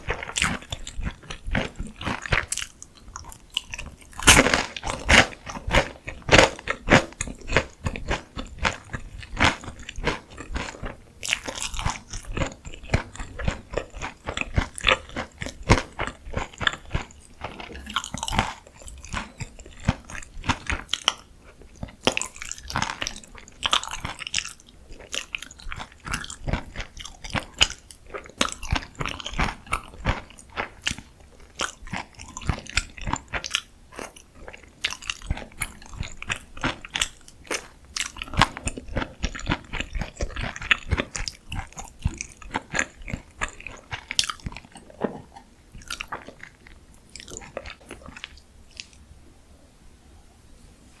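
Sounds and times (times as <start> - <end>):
crunching and chewing crisp food: 0.0 - 49.1.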